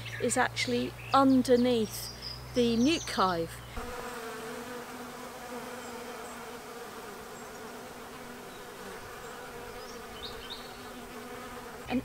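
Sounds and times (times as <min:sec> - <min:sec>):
honeybees buzzing: 0:00.2 - 0:12.0.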